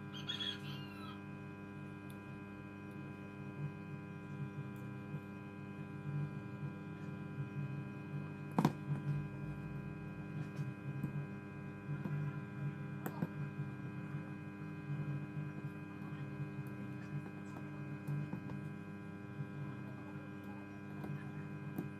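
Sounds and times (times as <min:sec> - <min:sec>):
electrical mains hum: 0:00.0 - 0:21.9.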